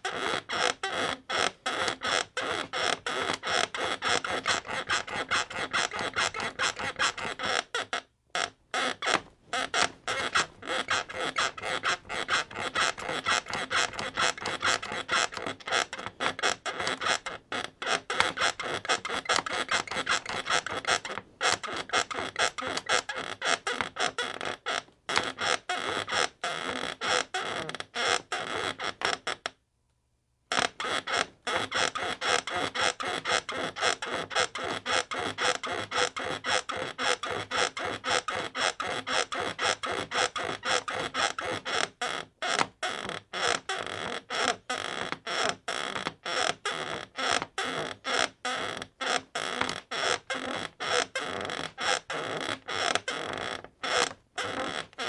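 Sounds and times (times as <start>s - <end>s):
bed creaking rhythmically: 0.0s - 7.7s, 8.4s - 23.7s, 30.9s - 55.0s.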